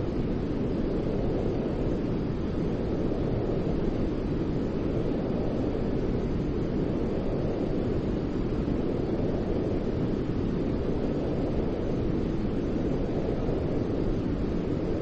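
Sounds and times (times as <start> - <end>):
deep rumbling white noise: 0.0 - 15.0.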